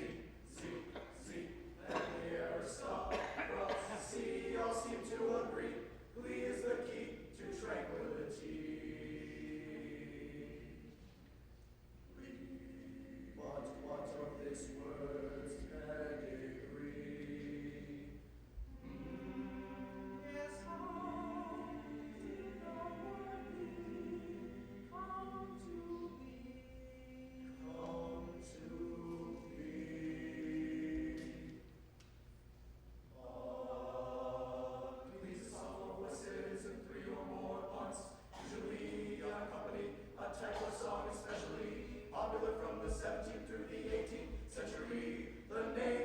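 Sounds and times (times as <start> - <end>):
choir singing: 0.0 - 11.1, 12.1 - 31.8, 33.1 - 46.0.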